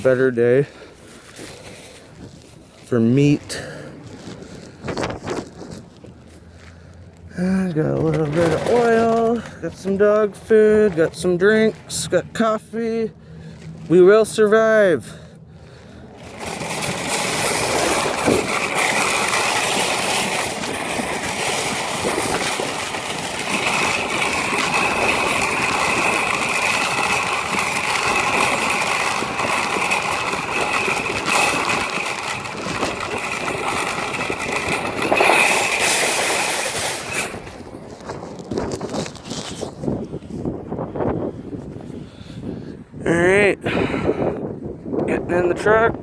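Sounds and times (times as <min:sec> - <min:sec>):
shopping cart rattling on pavement: 0:00.0 - 0:41.2
wheels squealing: 0:00.0 - 0:42.2.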